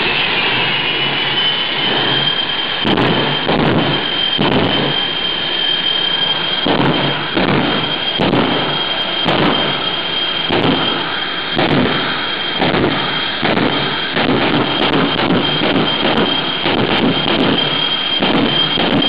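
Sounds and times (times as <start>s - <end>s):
jet engine roaring: 0.0s - 19.0s.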